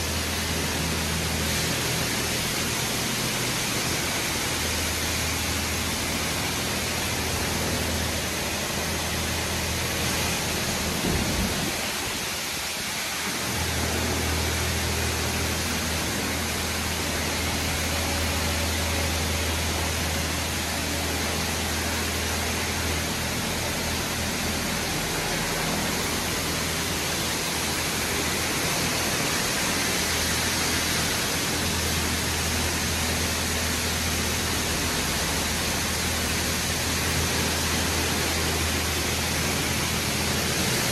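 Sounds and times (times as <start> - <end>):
car wash rushing noise: 0.0 - 40.9
low steady hum: 0.0 - 40.9.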